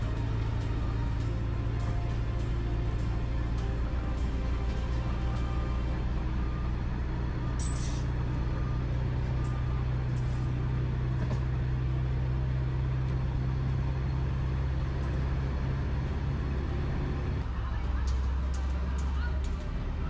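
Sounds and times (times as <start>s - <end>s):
locomotive engine drone: 0.0s - 20.0s.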